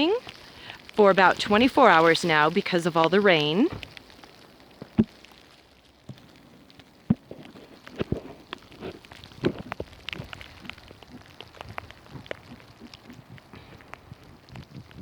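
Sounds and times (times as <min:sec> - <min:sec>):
water splashes and drips: 0:00.0 - 0:15.0.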